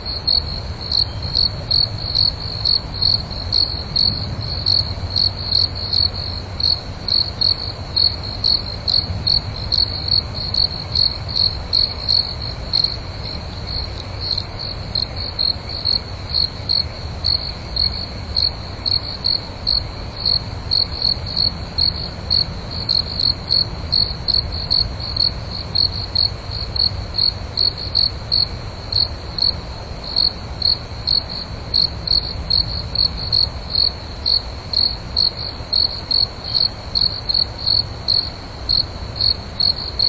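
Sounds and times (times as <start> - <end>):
crickets chirping: 0.0 - 40.0
low background noise: 0.0 - 40.0.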